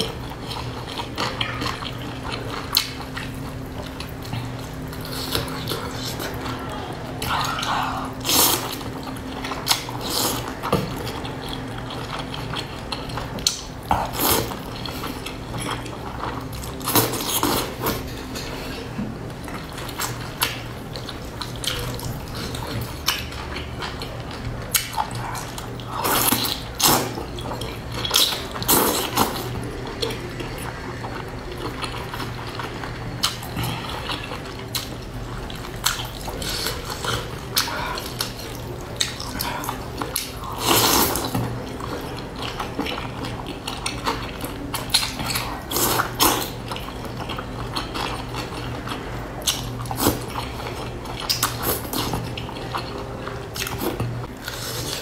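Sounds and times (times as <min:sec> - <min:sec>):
slurping and chewing noodles: 0:00.0 - 0:55.0.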